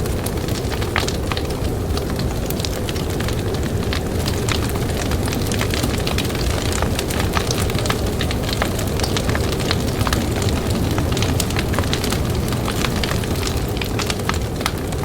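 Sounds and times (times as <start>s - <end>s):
blizzard wind rumble: 0.0s - 15.0s
campfire crackling and popping: 0.0s - 15.0s.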